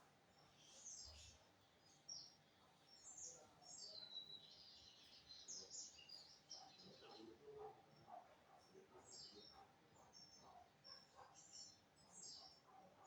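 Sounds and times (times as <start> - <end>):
songbird singing faintly: 0.0 - 12.8.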